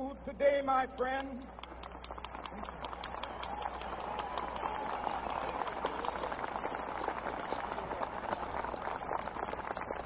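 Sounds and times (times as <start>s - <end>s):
large crowd applauding: 1.5s - 10.0s.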